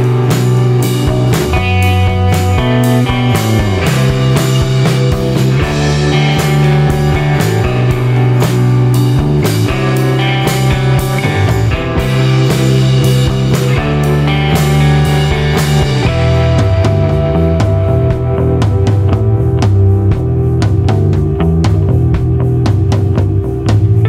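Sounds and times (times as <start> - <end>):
drum kit beat: 0.0 - 24.0
electric guitar: 0.0 - 24.0
rock music: 0.0 - 24.0.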